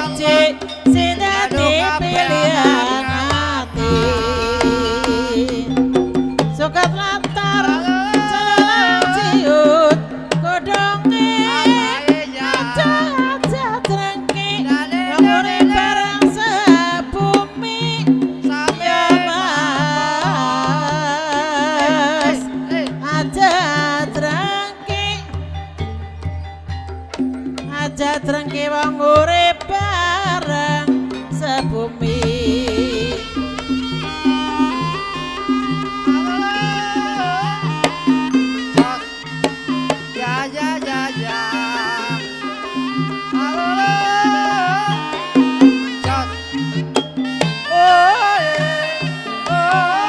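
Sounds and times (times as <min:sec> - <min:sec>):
hand drumming: 0:00.0 - 0:47.7
gamelan ensemble: 0:00.0 - 0:50.0.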